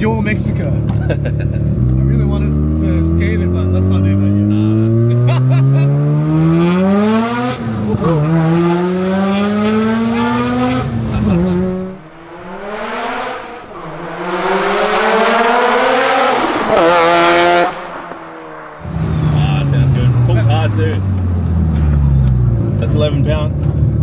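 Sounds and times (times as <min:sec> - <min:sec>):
rotary engine accelerating: 0:01.2 - 0:24.0.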